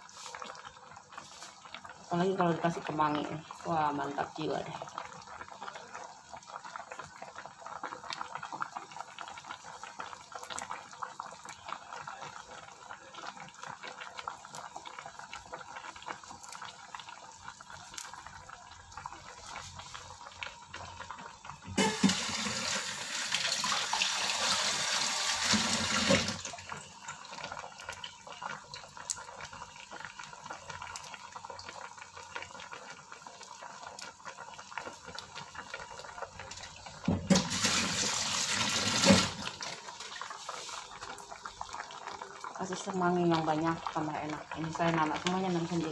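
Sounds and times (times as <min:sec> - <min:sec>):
soup bubbling and popping: 0:00.0 - 0:45.9.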